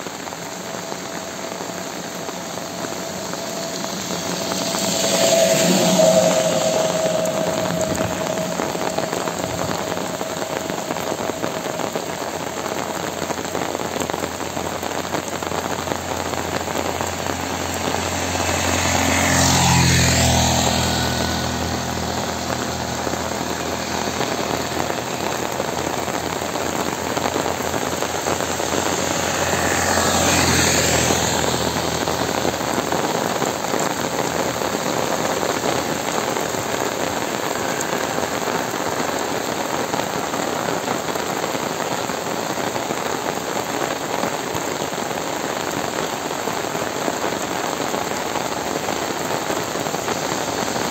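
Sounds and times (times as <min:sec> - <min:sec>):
heavy rain falling: 0:00.0 - 0:50.9
vehicles passing by: 0:00.0 - 0:50.9.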